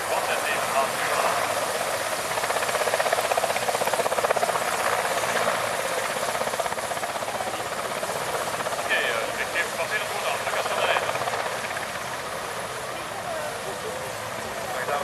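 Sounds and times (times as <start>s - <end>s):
helicopter rotor chop: 0.0s - 15.0s
turbine engine whine: 0.0s - 15.0s.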